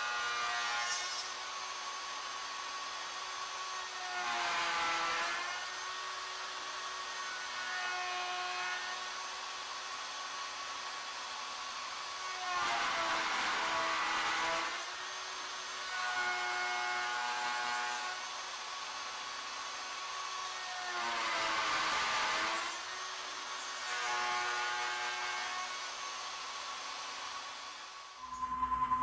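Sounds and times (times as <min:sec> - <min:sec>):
router cutting wood: 0:00.0 - 0:10.7, 0:12.1 - 0:29.0.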